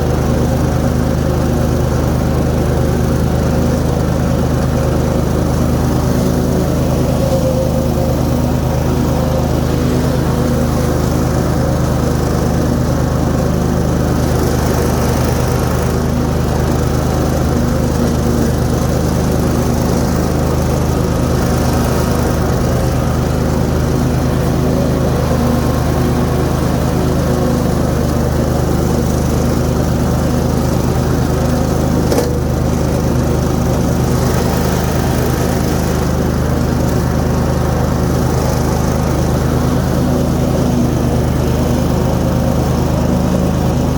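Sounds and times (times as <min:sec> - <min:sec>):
mower blades cutting grass: 0:00.0 - 0:43.9
riding mower engine running: 0:00.0 - 0:43.9.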